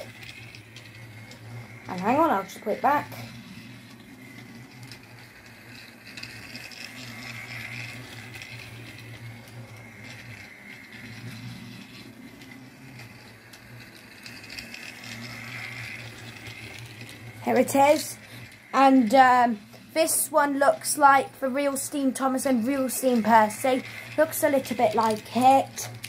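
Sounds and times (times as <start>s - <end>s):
toy train motor whirring: 0.0s - 26.0s.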